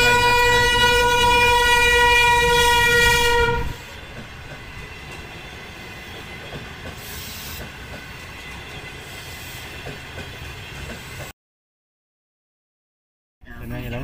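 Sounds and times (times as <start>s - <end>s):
train wheels rumbling: 0.0s - 11.3s.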